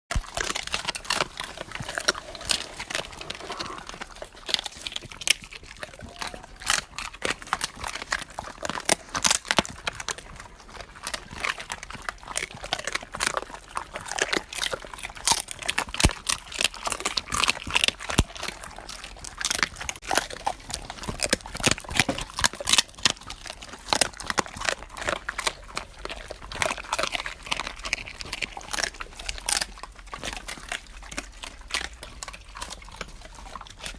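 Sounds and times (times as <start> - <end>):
dogs crunching bones: 0.1 - 33.9
wet gnawing: 0.1 - 33.9.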